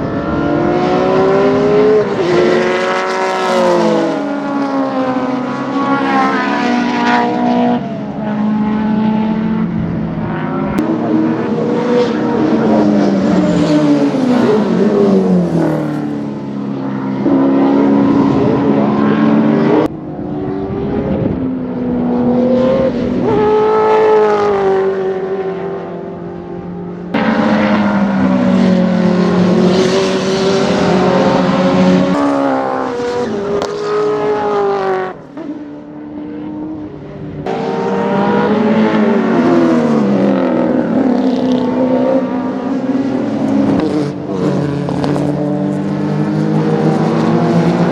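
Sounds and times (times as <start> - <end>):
racing car engines revving: 0.0 - 47.9.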